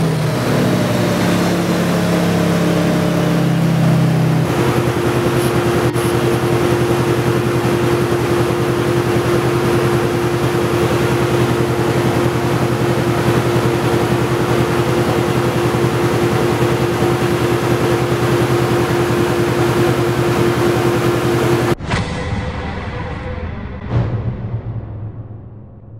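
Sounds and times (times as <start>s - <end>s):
single-cylinder engine running loud: 0.0s - 21.8s.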